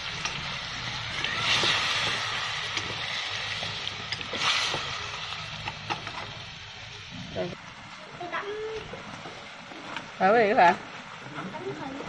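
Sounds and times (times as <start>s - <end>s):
fish sizzling in sauce: 0.0s - 12.0s.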